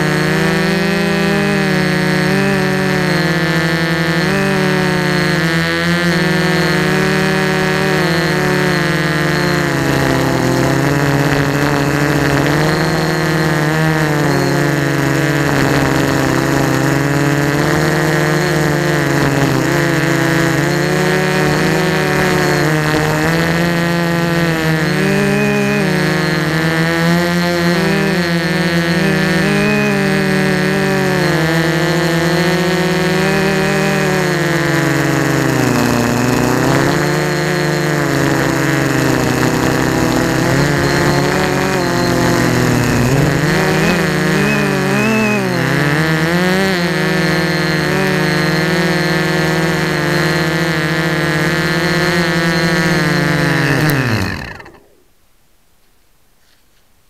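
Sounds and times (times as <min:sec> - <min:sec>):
drone motors whining: 0:00.0 - 0:55.1.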